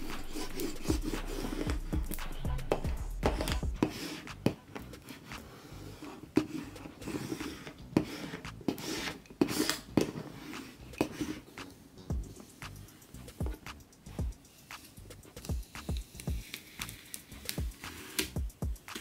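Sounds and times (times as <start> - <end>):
scratchy rubbing strokes: 0.0 - 19.0.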